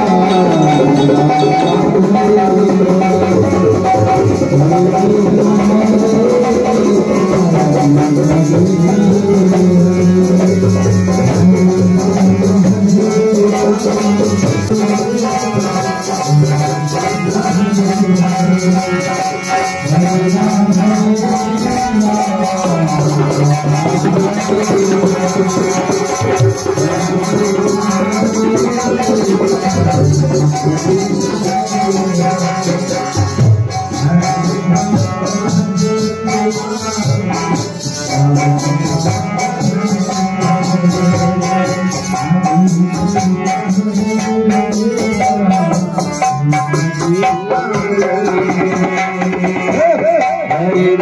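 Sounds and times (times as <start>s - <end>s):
hand drum: 0.0s - 51.0s
man singing devotional song: 0.0s - 51.0s.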